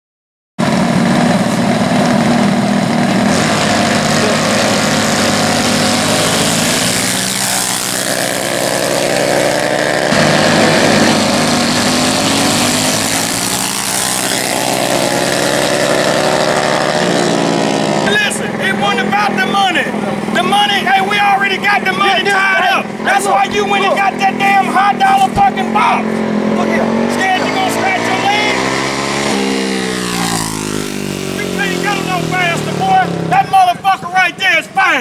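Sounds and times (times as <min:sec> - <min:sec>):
small engines revving: 0:00.6 - 0:33.8.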